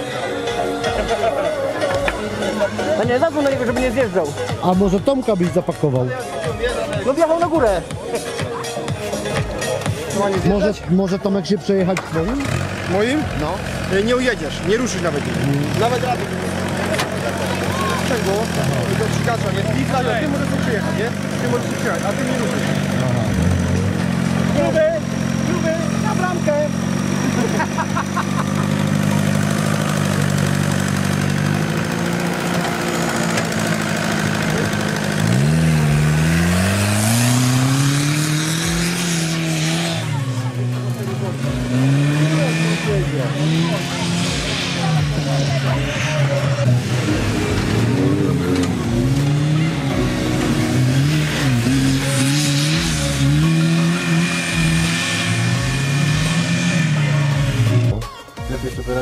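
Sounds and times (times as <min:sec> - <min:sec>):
diesel engine running and revving: 0:00.0 - 0:59.0.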